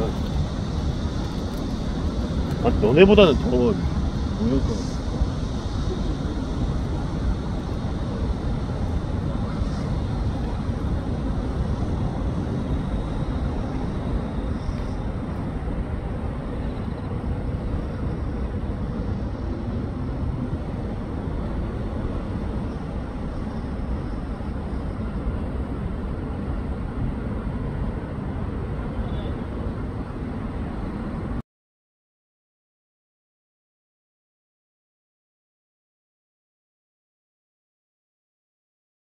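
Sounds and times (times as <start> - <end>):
low outdoor rumble: 0.0 - 31.4.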